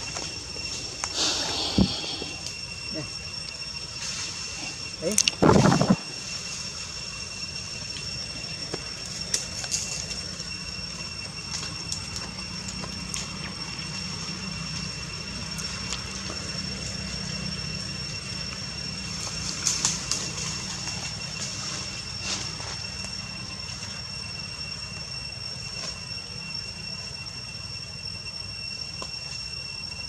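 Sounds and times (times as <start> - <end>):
high-pitched whine: 0.0 - 30.0.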